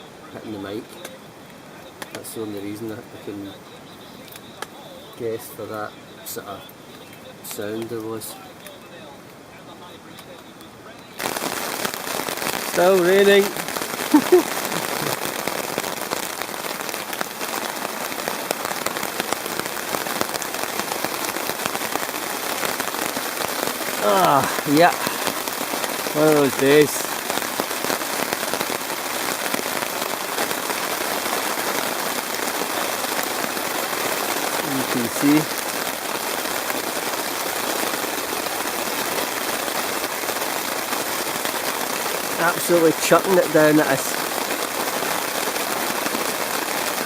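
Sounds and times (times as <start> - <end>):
heavy rain falling: 0.0 - 47.0
raindrops crackling close by: 0.0 - 47.0.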